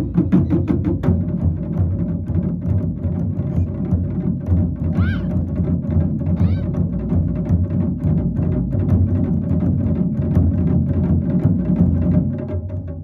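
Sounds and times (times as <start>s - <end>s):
drum ensemble playing: 0.0s - 13.0s.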